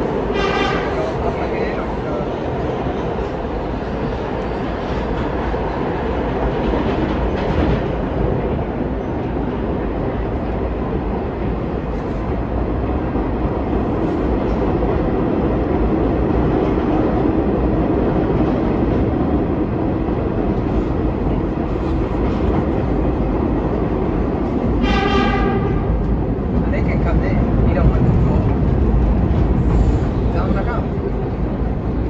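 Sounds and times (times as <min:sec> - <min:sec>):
subway train wheels rumbling: 0:00.0 - 0:32.0.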